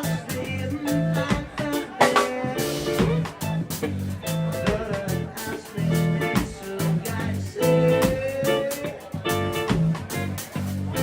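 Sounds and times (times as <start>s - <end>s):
live band with guitar: 0.0s - 11.0s.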